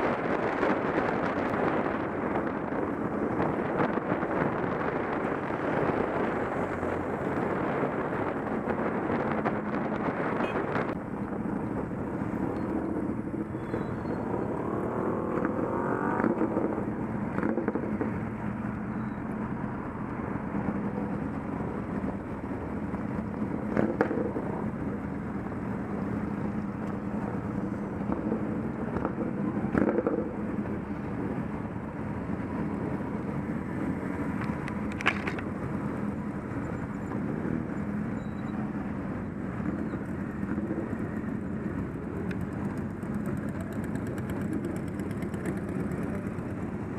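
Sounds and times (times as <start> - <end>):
motorcycle engines at low speed: 0.0 - 46.9.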